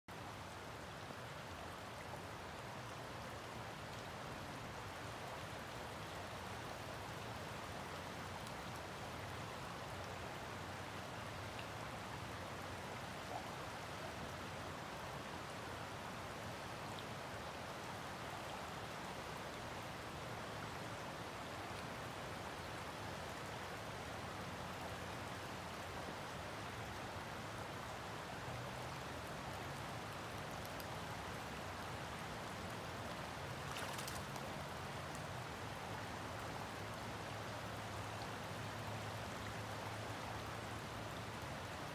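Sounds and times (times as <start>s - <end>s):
outdoor background hiss: 0.1s - 41.9s.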